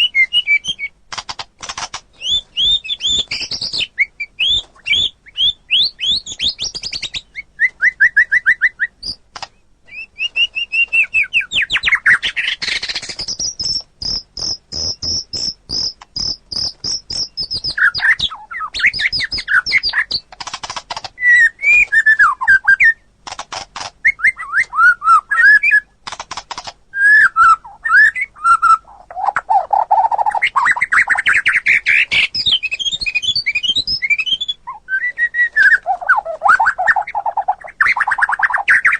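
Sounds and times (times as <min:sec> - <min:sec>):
songbird singing varied song: 0:00.0 - 0:01.0, 0:02.1 - 0:20.3, 0:21.0 - 0:23.1, 0:24.0 - 0:25.9, 0:26.9 - 0:38.9.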